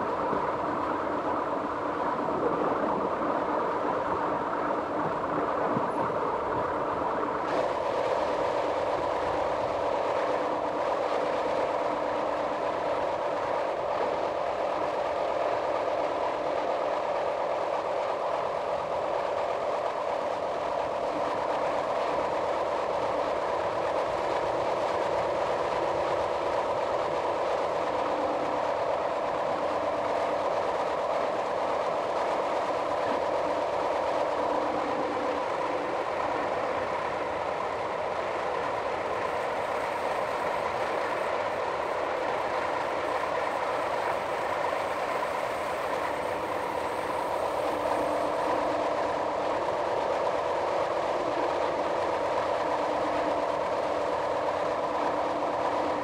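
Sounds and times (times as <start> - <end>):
multi-tone hum: 0.0 - 56.0
train running noise: 0.0 - 56.0.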